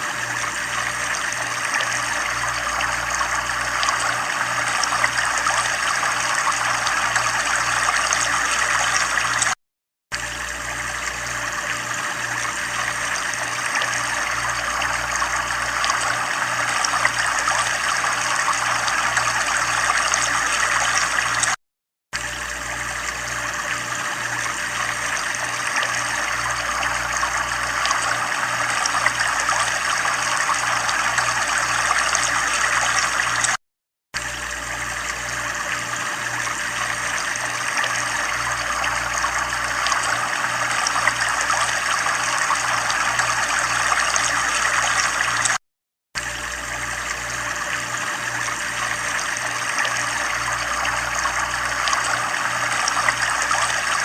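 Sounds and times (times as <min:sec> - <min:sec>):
running water trickling: 0:00.0 - 0:09.6, 0:10.2 - 0:21.6, 0:22.2 - 0:33.6, 0:34.2 - 0:45.6, 0:46.2 - 0:54.0.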